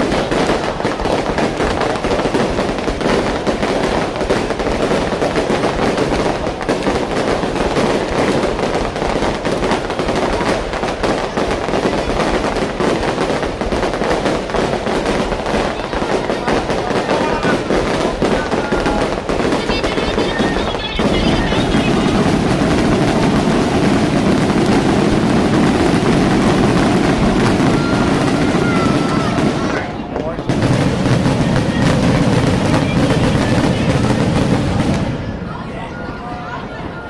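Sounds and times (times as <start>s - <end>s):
fireworks pops and crackles: 0.0s - 35.5s.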